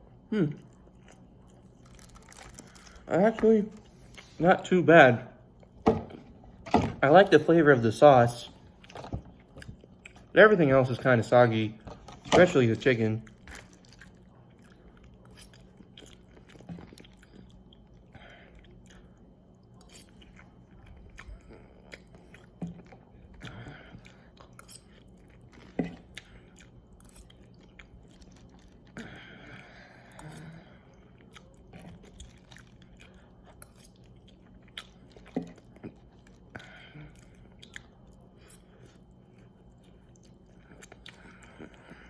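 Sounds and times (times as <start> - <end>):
person chewing food: 0.1 - 4.4, 8.5 - 10.3, 13.2 - 42.0.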